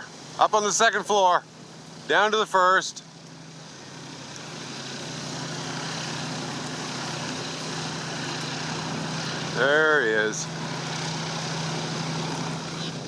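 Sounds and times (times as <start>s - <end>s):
airboat engine and propeller: 0.0s - 13.0s.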